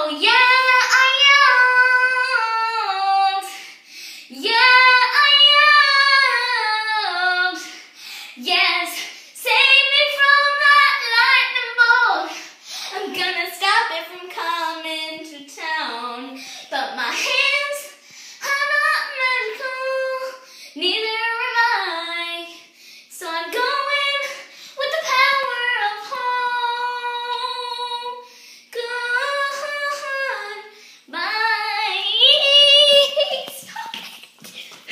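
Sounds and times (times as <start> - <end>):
girl singing unaccompanied: 0.0 - 34.6.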